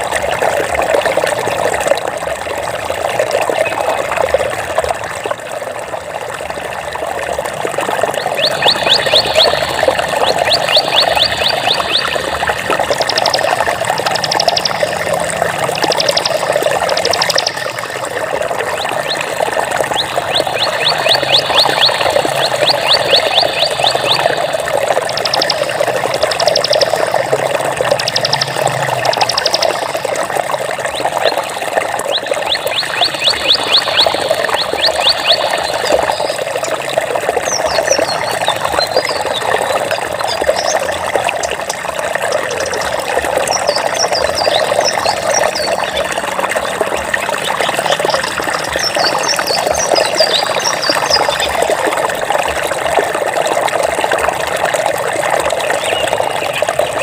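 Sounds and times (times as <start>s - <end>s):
flowing water trickle: 0.0s - 57.0s.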